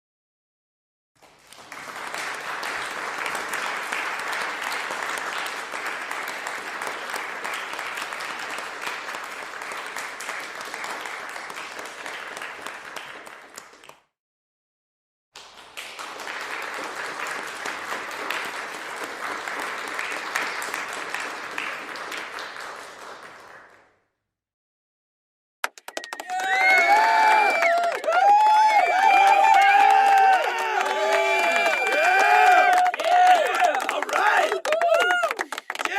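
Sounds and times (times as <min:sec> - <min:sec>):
crowd applause: 0:01.2 - 0:14.0, 0:15.4 - 0:23.9, 0:25.6 - 0:35.9.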